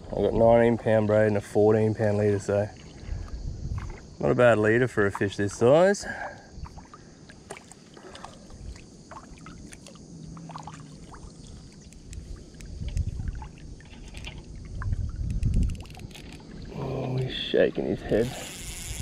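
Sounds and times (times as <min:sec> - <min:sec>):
water lapping against kayak hull: 0:00.0 - 0:19.0.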